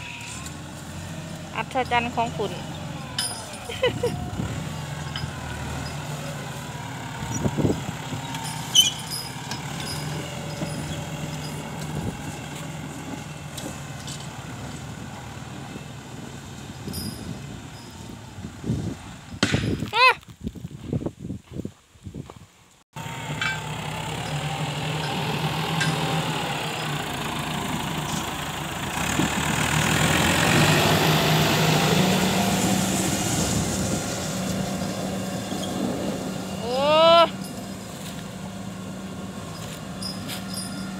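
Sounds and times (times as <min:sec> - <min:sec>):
tractor diesel engine under load: 0:00.0 - 0:19.7, 0:22.9 - 0:40.9.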